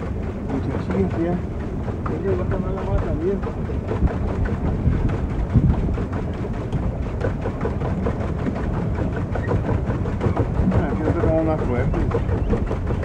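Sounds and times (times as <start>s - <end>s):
rapid knocking: 0.0s - 13.0s
water splashing at boat hull: 0.0s - 13.0s
wind buffeting microphone: 0.0s - 13.0s.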